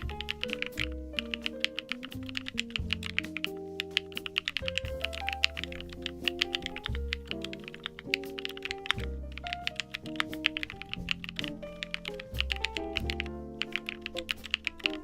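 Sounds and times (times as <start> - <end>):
background music: 0.0 - 15.0
mechanical keyboard typing: 0.0 - 15.0.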